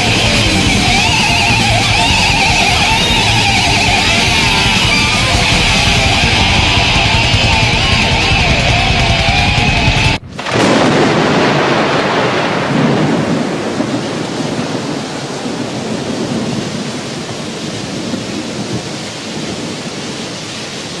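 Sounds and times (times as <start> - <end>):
heavy rain: 0.0 - 21.0
thunder rumbling: 0.0 - 21.0.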